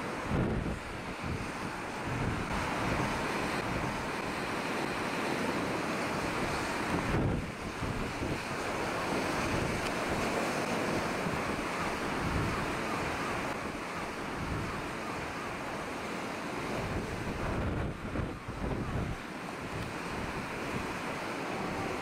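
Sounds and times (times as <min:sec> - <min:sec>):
rough sea breaking: 0:00.0 - 0:22.0
wind buffeting microphone: 0:00.0 - 0:22.0.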